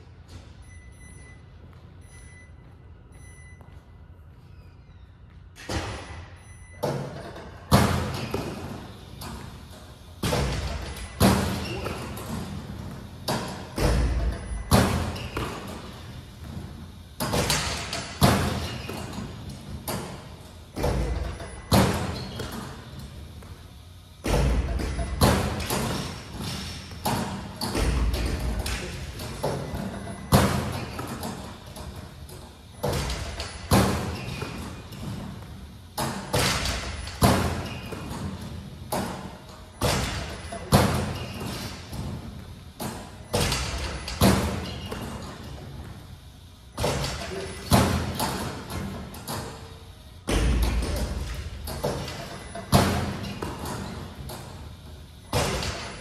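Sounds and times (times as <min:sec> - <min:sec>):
basketballs bouncing on gym floor: 0:06.8 - 0:46.1, 0:46.7 - 0:56.0.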